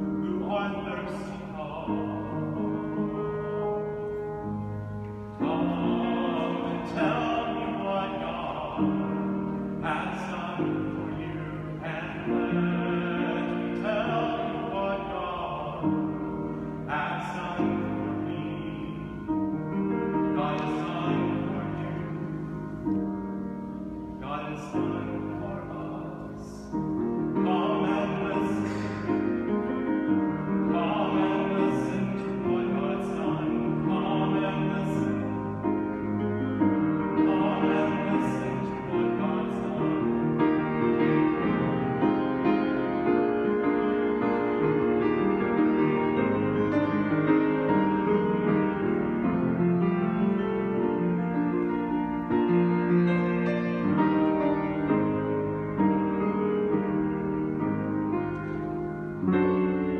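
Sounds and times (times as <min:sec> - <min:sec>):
man singing a hymn: 0:00.0 - 0:23.0, 0:24.1 - 0:56.9
grand piano playing: 0:00.0 - 0:59.9.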